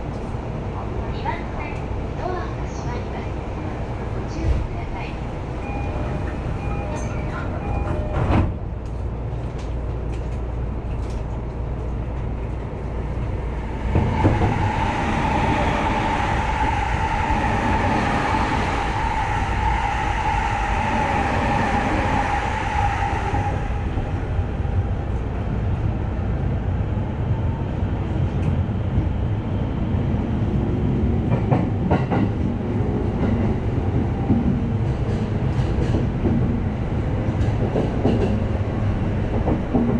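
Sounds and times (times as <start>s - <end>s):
passing train rush: 0.0s - 39.9s
train running rumble: 0.0s - 39.9s.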